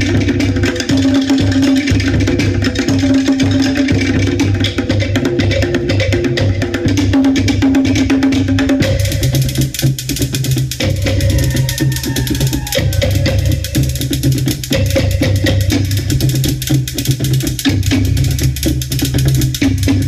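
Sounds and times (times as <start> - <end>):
deep bass drum beat: 0.0 - 20.0.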